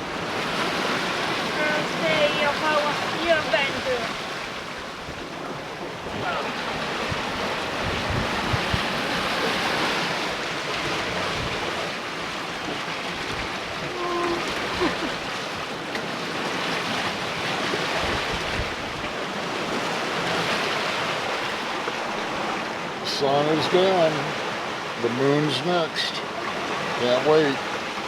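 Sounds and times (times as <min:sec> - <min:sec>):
wind buffeting microphone: 0:00.0 - 0:22.8
water rushing past hull: 0:00.0 - 0:28.0.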